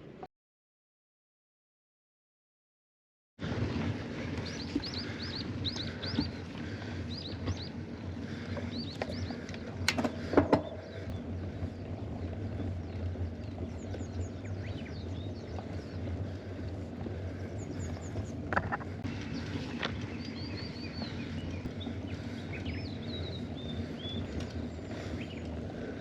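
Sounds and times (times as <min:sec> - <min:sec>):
bird chirping: 0:04.2 - 0:25.7.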